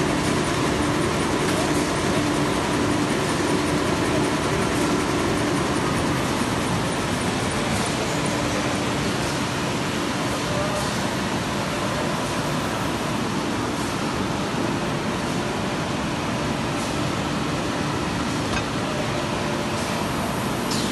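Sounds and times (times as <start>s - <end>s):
machinery whooshing hum: 0.0s - 20.9s.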